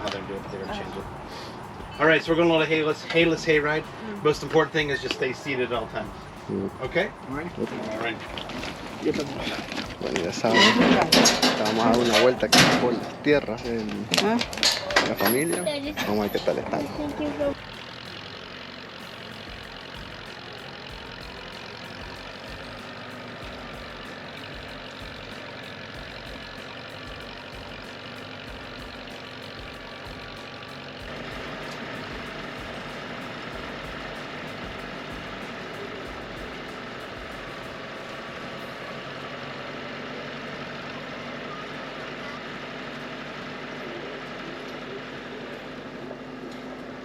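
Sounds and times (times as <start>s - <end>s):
vehicle engine running: 0.0s - 47.0s.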